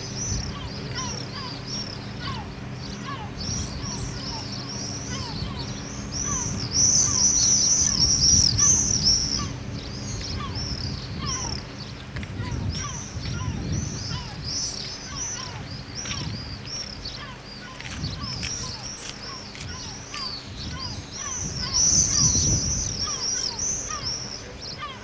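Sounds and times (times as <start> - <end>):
birds chirping: 0.0 - 25.0
low rumbling noise: 0.0 - 25.0.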